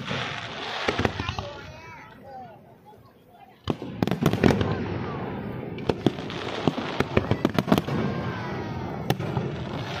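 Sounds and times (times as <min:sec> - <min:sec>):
din of overlapping firework bursts: 0:00.0 - 0:10.0
fireworks bursting with sharp bangs: 0:00.0 - 0:10.0.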